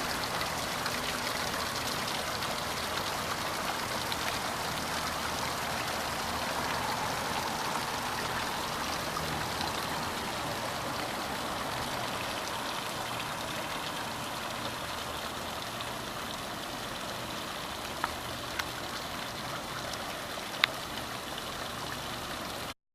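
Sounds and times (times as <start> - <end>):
water fountain splashing: 0.0 - 22.8.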